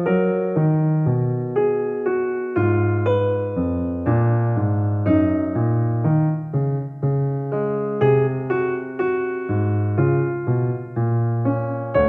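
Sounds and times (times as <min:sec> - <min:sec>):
piano chords and notes: 0:00.0 - 0:12.0.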